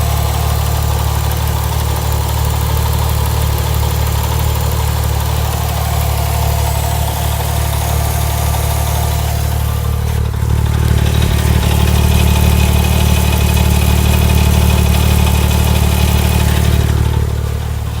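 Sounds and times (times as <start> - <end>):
car engine idling: 0.0 - 18.0
engine ticking: 0.0 - 18.0.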